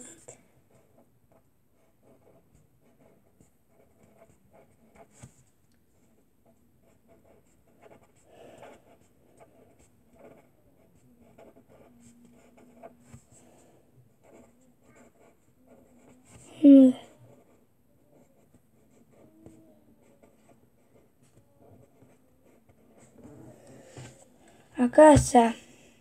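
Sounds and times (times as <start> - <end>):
pencil scratching on paper: 0.0 - 25.5.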